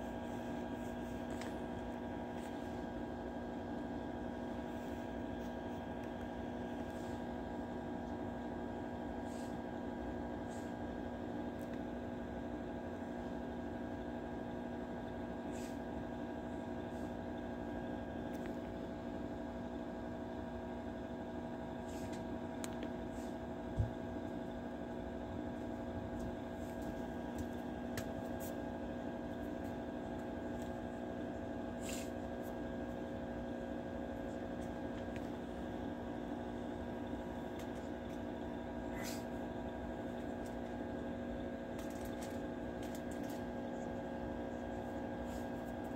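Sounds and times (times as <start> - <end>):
electrical hum: 0.0 - 45.9.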